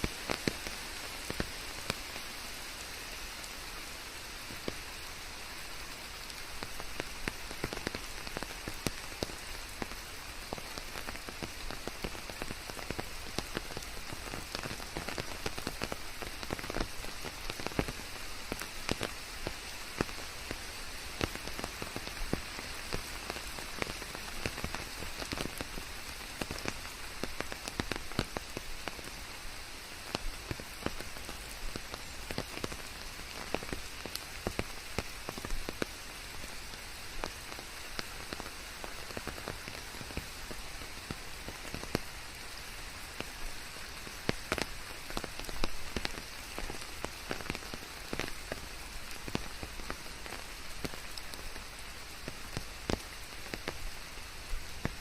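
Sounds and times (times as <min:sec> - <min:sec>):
raindrops ticking: 0:00.0 - 0:02.3, 0:04.4 - 0:55.0
rain hiss: 0:00.0 - 0:55.0.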